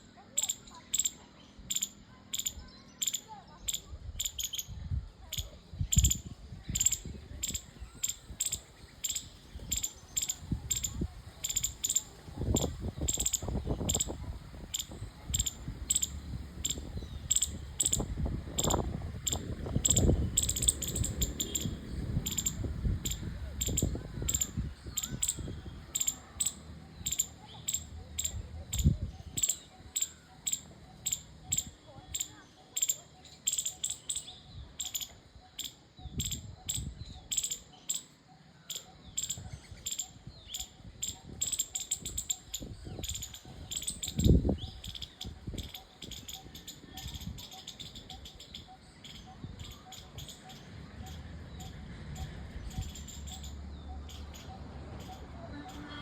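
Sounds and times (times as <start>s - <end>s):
squirrel chirping: 0.4s - 55.9s.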